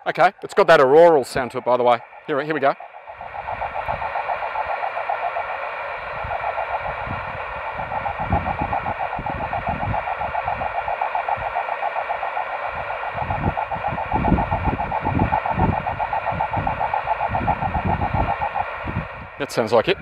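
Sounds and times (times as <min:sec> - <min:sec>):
radio hiss: 0:00.0 - 0:20.0
rough fluttering radio tone: 0:00.0 - 0:20.0.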